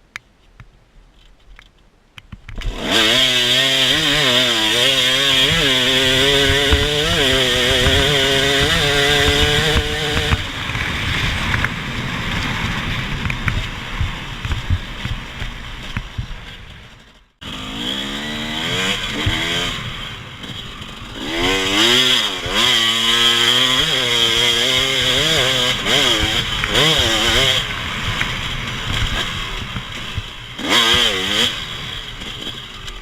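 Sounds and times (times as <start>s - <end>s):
small off-road engine revving: 2.6s - 16.2s, 16.9s - 33.0s.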